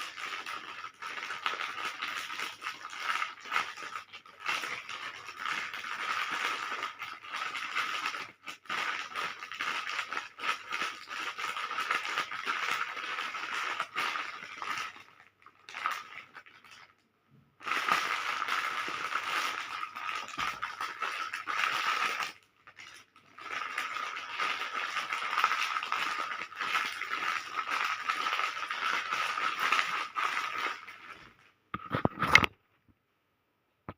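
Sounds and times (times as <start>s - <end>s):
wrapped candies rattling: 0.0s - 17.0s, 17.6s - 31.4s.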